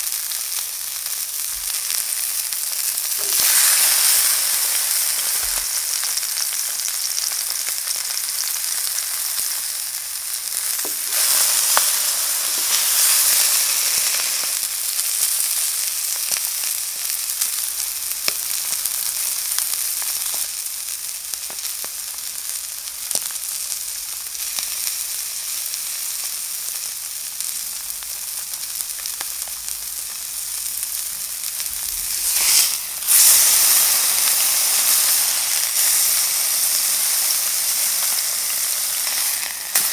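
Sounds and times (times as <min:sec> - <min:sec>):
fat crackling and popping: 0:00.0 - 0:39.9
steak sizzling in a pan: 0:00.0 - 0:39.9.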